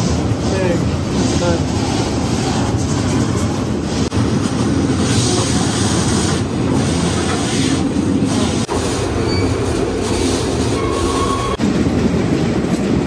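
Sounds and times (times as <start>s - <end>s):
train car rumbling on track: 0.0s - 13.0s.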